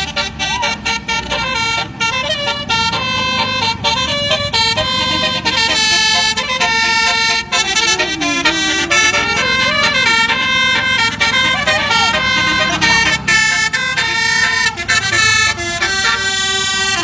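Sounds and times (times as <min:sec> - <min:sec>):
multi-tone air horn playing a tune: 0:00.0 - 0:17.0.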